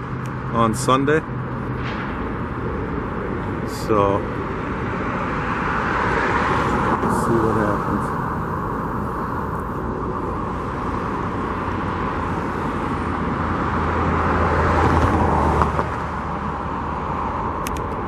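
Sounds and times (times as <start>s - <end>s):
heavy vehicle engine passing: 0.0s - 17.6s
road traffic passing: 0.0s - 18.0s.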